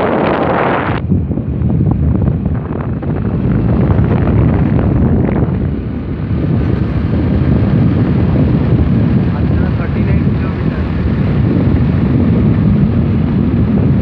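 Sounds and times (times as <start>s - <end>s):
vehicle road noise: 0.0s - 14.0s
wind buffeting microphone: 0.0s - 14.0s.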